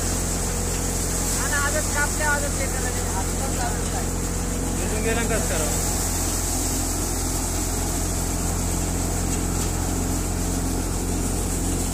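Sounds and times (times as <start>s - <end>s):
thresher machine droning: 0.0s - 11.9s.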